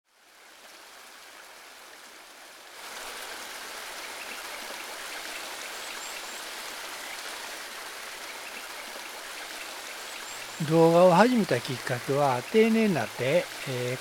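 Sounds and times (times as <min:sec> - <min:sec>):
water rushing over stone weir: 0:00.6 - 0:14.0.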